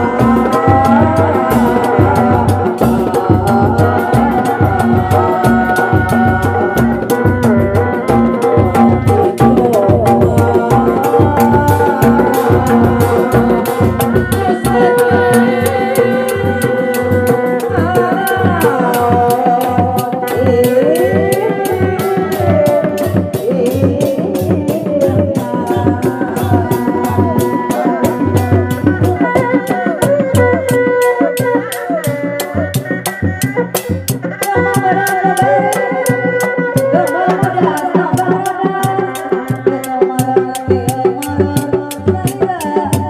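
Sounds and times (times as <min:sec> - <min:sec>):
fast drum beat: 0:00.0 - 0:43.0.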